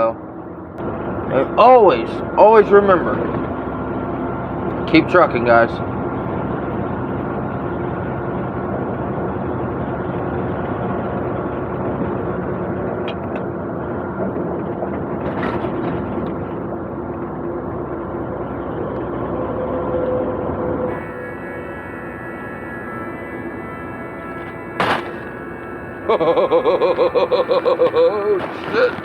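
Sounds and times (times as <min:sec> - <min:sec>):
road noise: 0:00.0 - 0:29.0
truck engine hum: 0:00.0 - 0:29.0.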